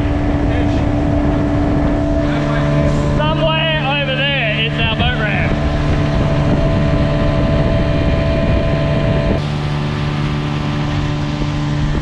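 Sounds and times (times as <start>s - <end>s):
outboard motor running: 0.0s - 12.0s
water rushing along hull: 0.0s - 12.0s
wind on microphone: 0.0s - 12.0s.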